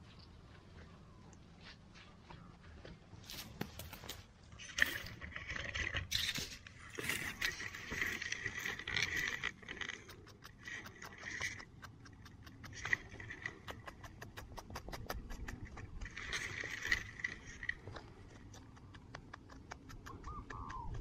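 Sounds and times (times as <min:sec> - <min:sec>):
fingers scraping gravelly soil: 0:03.2 - 0:20.3
clicks of grit and pebbles: 0:03.3 - 0:21.0.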